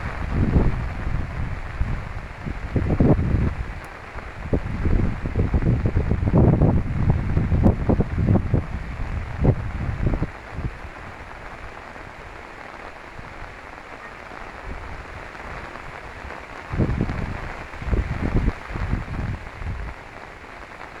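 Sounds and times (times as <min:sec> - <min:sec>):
wind rumbling on microphone: 0:00.0 - 0:20.8
rain falling on a river: 0:00.0 - 0:21.0.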